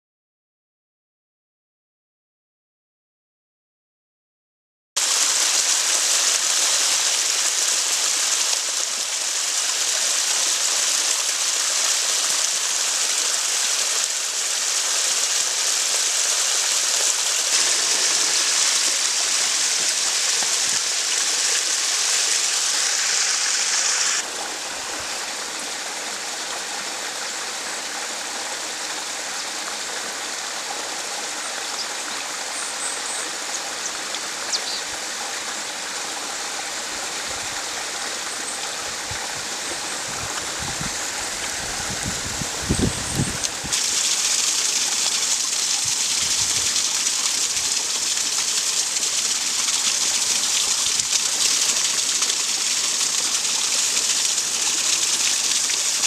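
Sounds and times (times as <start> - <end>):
stream rushing over rocks: 5.0 - 56.0.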